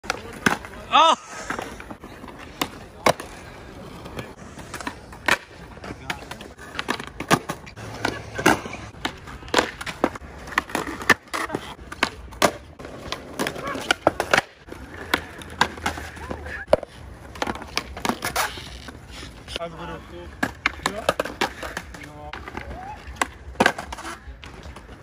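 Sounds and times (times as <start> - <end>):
skateboards clacking on landing: 0.0 - 25.0
skateboards rolling on concrete: 0.0 - 25.0.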